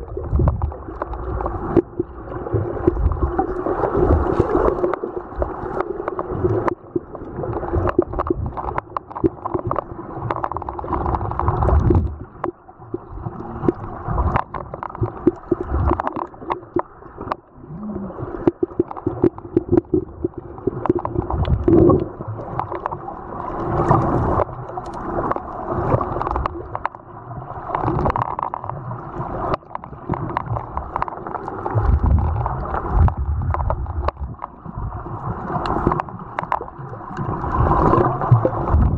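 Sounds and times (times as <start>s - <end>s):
muffled underwater gurgling: 0.0s - 38.9s
small clicks and crackles: 0.0s - 38.9s.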